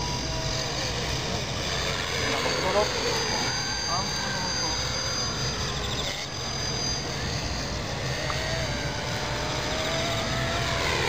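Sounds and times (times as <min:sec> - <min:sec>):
model aircraft motor whine: 0:00.0 - 0:11.0.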